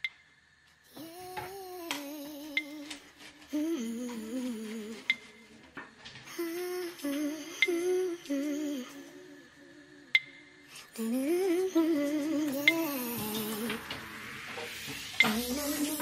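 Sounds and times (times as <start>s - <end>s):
person humming melody: 0.9s - 5.5s, 6.3s - 14.3s, 15.2s - 16.0s.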